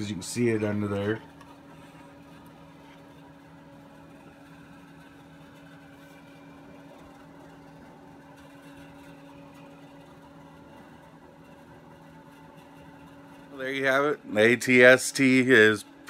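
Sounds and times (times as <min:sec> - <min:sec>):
low hum with faint tones: 0:00.0 - 0:16.0.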